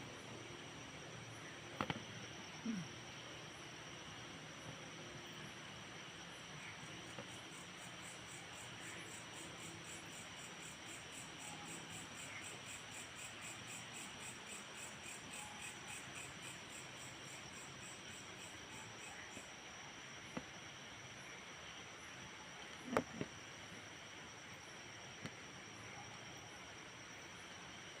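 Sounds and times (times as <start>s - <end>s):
night insects chirping: 0.0s - 28.0s.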